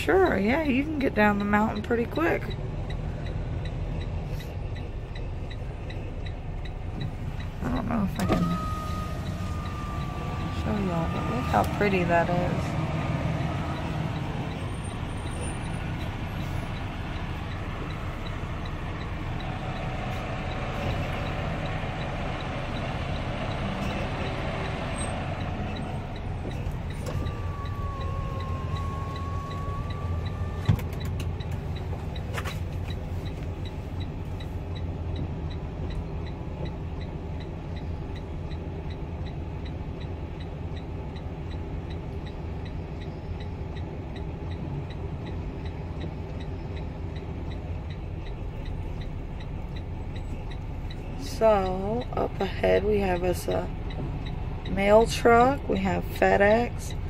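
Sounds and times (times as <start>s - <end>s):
diesel truck engine rumble: 0.0s - 57.0s.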